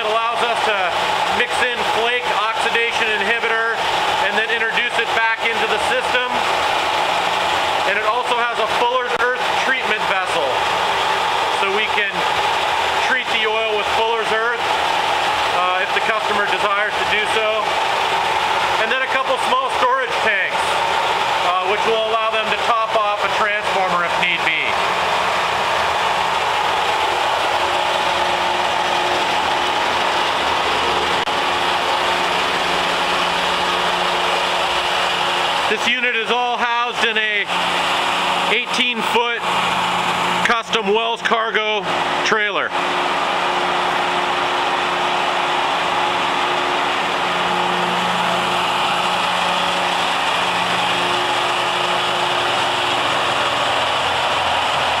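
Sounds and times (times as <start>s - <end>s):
machine running: 0.0s - 55.0s.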